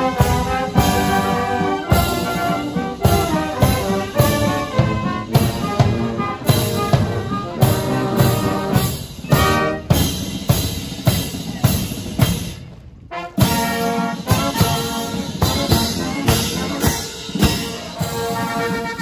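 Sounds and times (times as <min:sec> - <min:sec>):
marching band playing: 0:00.0 - 0:19.0.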